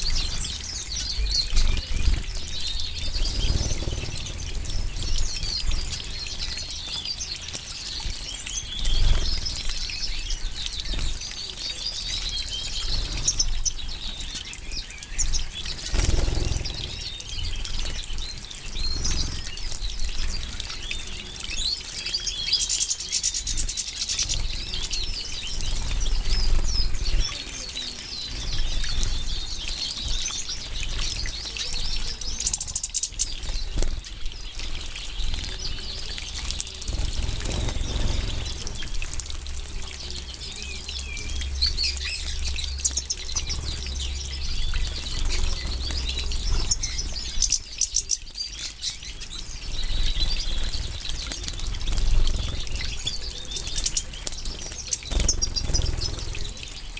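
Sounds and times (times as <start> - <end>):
birds twittering: 0.0 - 56.9
splashing and wing-fluttering in water: 0.0 - 56.9.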